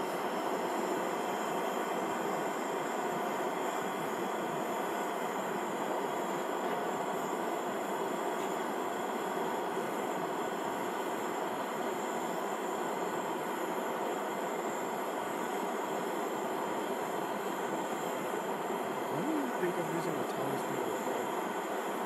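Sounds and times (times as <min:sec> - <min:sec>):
gas camp stove hissing: 0:00.0 - 0:22.0.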